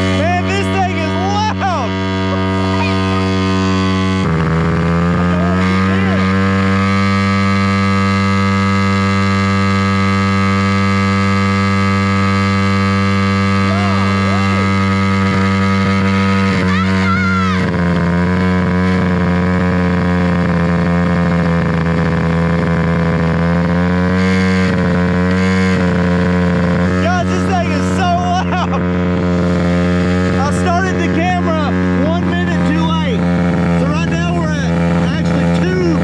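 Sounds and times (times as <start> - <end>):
pit bike engine at high revs: 0.0 - 36.0.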